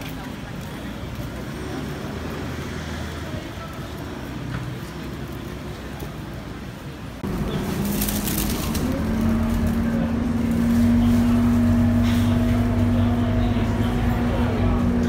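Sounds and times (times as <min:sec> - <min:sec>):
bus engine hum: 0:00.1 - 0:15.0.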